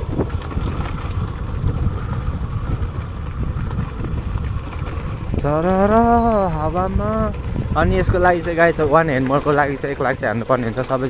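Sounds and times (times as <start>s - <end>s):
motorcycle engine running: 0.0s - 11.0s
road rumble: 0.0s - 11.0s
wind buffeting microphone: 0.0s - 11.0s.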